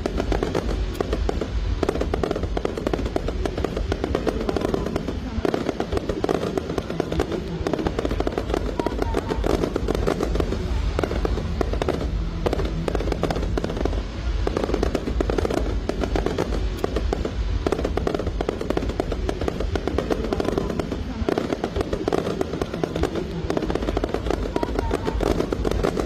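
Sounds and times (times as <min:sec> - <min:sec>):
fireworks banging and crackling: 0:00.0 - 0:26.0.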